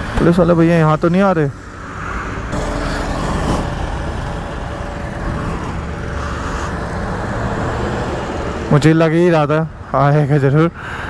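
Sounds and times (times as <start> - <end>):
motorcycle engine hum: 0.0 - 9.8
road and wind noise: 0.0 - 11.0.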